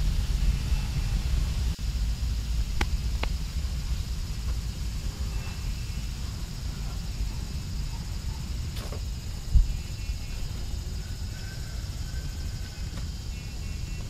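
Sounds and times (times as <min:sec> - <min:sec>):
high hiss: 0:00.0 - 0:14.0
low rumble: 0:00.0 - 0:14.0.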